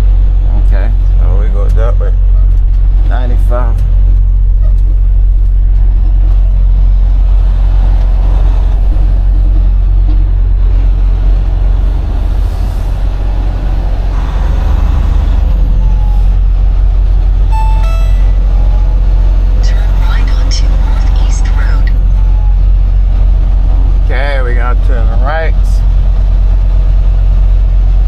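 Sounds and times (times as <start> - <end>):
road and cab noise: 0.0 - 28.0
truck diesel engine droning: 0.0 - 28.0.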